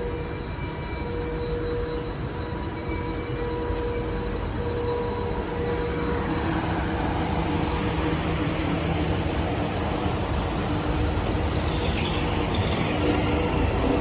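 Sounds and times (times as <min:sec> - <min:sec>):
electric train rumbling past: 0:00.0 - 0:14.0.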